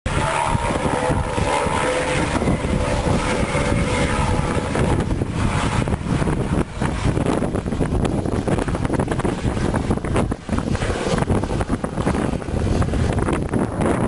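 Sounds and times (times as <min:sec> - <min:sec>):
wind rumble on microphone: 0:00.0 - 0:14.0
distant helicopter flying past: 0:00.1 - 0:14.0.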